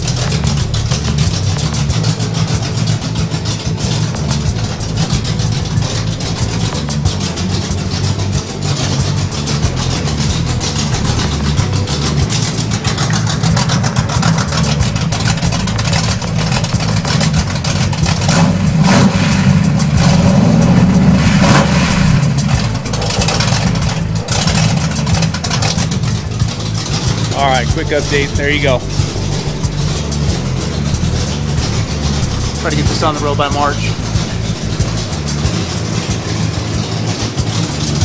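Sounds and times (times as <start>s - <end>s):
vehicle engine revving: 0.0s - 38.0s.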